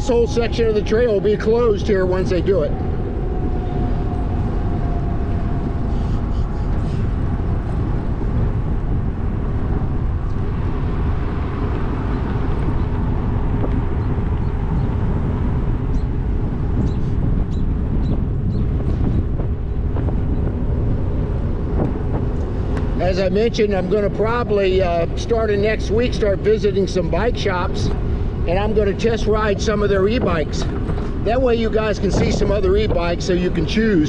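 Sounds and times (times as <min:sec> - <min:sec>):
bike tyre rumble on trail: 0:00.0 - 0:34.0
rushing wind: 0:00.0 - 0:34.0.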